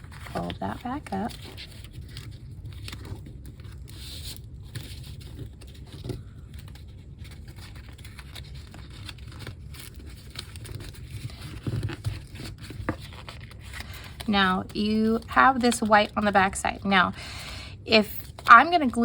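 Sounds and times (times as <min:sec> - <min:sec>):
paper rustling and scraping: 0:00.0 - 0:17.0, 0:18.0 - 0:19.0.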